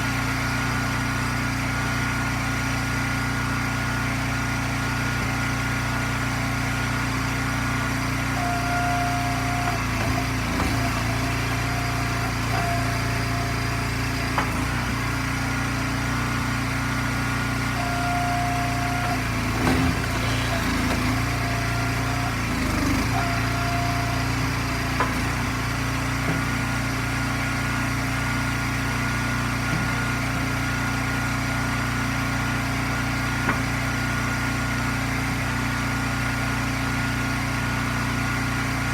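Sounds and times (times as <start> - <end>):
log splitter engine running: 0.0 - 38.9.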